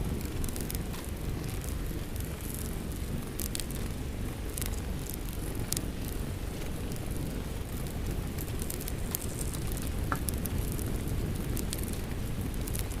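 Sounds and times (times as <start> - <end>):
rain: 0.0 - 13.0
wood fire crackling: 0.0 - 13.0.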